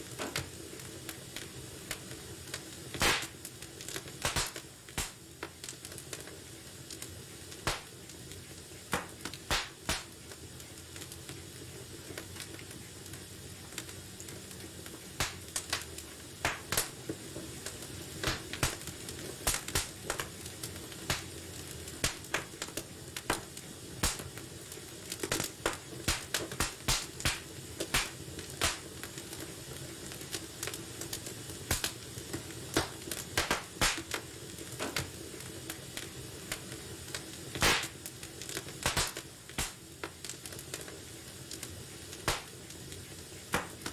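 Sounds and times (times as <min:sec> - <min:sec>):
low steady fire hiss: 0:00.0 - 0:43.9
wood fire crackling and popping: 0:00.0 - 0:43.9.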